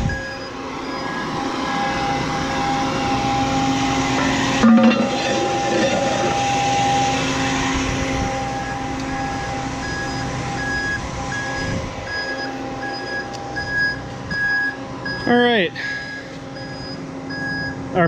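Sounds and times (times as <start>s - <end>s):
repeating alarm beep: 0.0s - 3.8s, 4.6s - 7.2s, 8.4s - 17.8s
truck engine idling: 0.0s - 18.0s.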